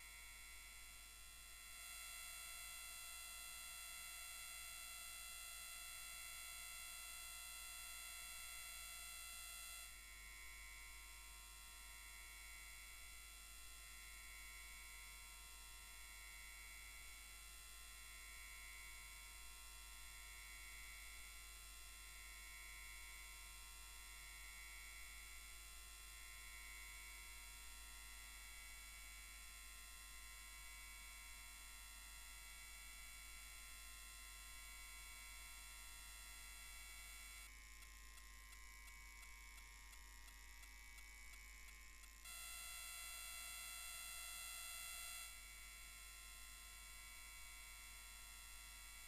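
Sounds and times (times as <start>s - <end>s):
faint electrical hum and whine: 0.0s - 49.0s.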